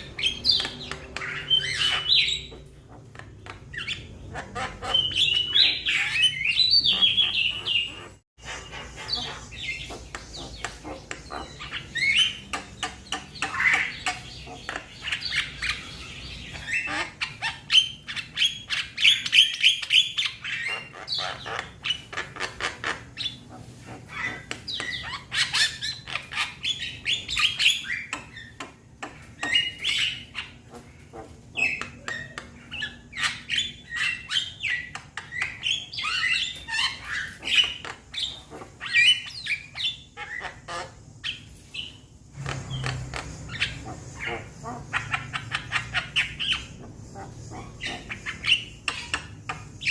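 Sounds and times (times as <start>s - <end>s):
myna chattering calls: 0.0s - 49.9s.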